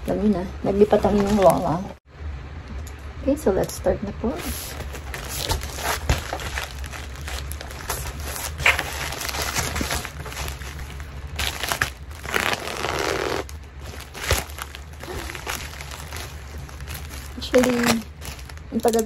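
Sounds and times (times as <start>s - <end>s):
low steady hum: 0.0s - 19.0s
plastic mailer crinkling: 0.7s - 1.9s, 4.4s - 19.0s.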